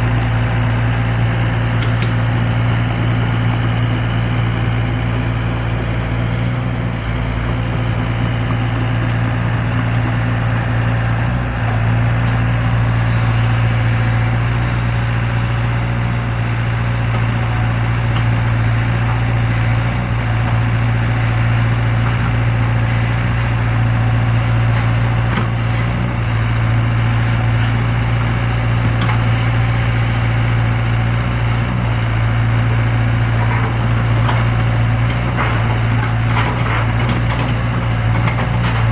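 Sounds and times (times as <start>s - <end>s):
excavator diesel engine droning: 0.0s - 38.9s.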